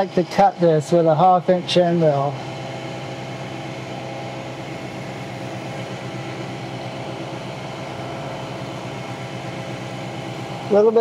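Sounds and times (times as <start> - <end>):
milling machine humming: 0.0 - 11.0.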